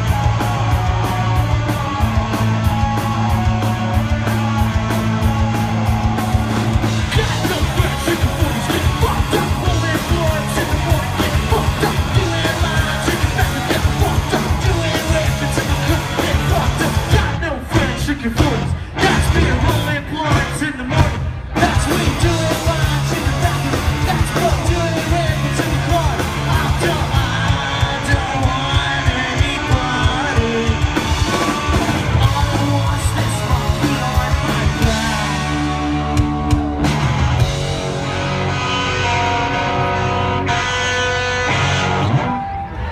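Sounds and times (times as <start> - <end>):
person yelling lead vocal: 0.0 - 36.8
fast drums: 0.0 - 38.4
bass guitar: 0.0 - 42.9
distorted electric guitar: 0.0 - 42.9.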